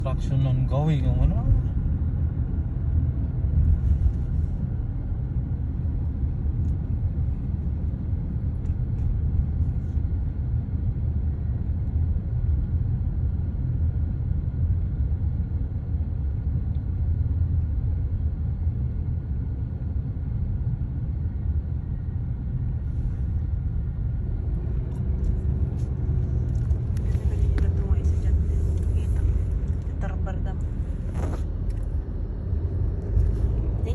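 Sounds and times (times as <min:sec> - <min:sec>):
low vehicle rumble: 0:00.0 - 0:33.9.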